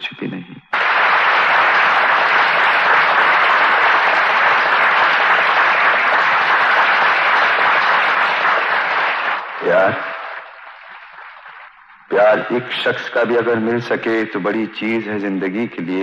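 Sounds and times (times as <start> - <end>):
audience applauding: 0.7 - 13.6.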